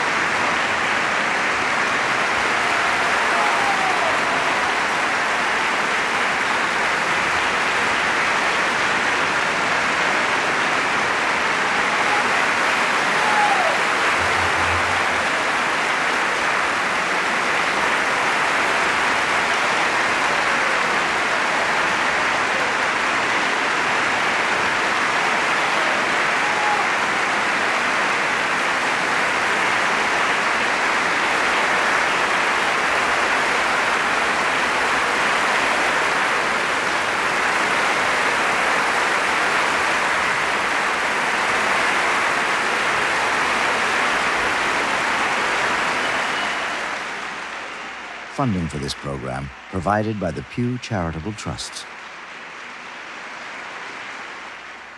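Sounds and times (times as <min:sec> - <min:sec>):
audience applauding: 0:00.0 - 0:54.9.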